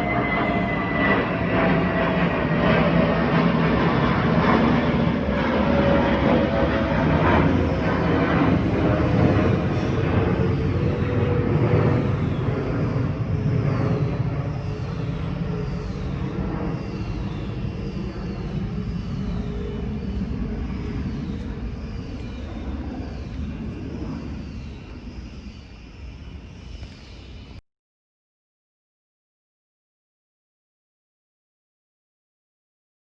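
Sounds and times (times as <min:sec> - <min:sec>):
jet rumble: 0:00.0 - 0:27.6.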